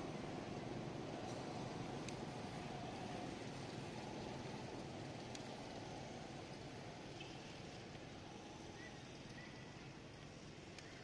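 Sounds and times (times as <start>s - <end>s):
faint steady tone: 0.0s - 11.0s
low rumbling background noise: 0.0s - 11.0s.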